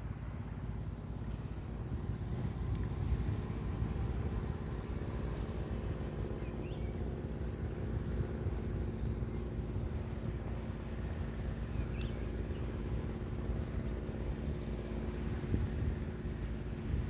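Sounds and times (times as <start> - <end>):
faint constant hum: 0.0 - 17.0
wind buffeting microphone: 0.0 - 17.0.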